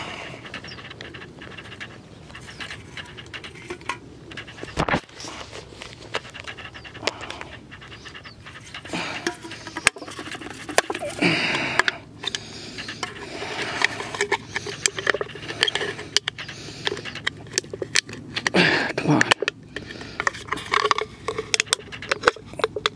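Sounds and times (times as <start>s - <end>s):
aluminium can crinkling: 0.5s - 7.5s, 8.5s - 22.9s.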